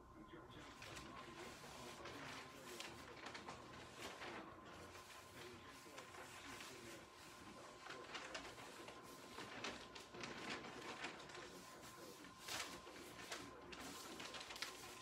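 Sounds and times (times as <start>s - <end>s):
paper rustling on felt: 0.6s - 15.0s.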